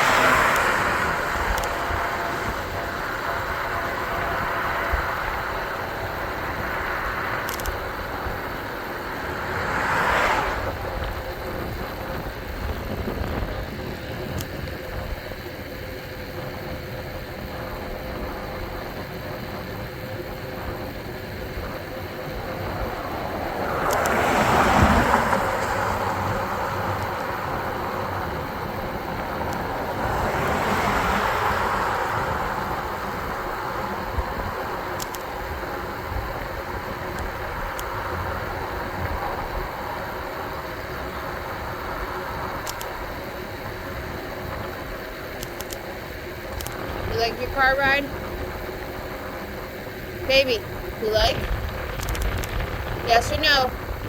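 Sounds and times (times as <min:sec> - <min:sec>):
cars passing: 0:00.0 - 0:54.0
steady rushing background: 0:00.0 - 0:54.0.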